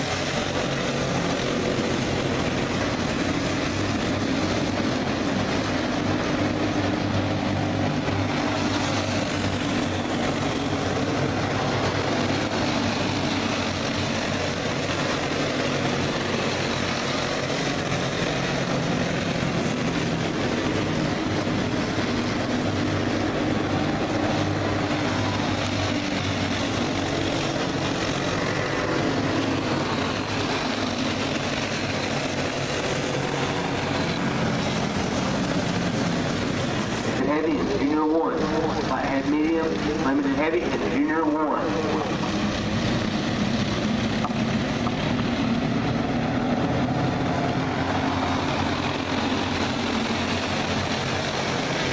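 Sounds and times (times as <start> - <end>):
go-kart engines droning: 0.0 - 51.9.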